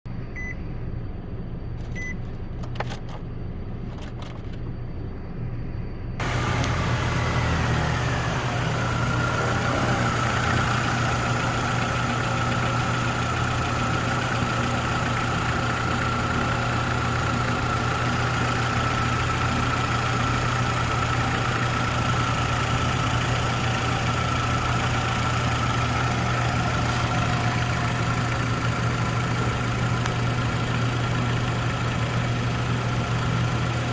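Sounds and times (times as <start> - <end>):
car engine starting and idling: 1.2 - 4.8, 6.2 - 33.9.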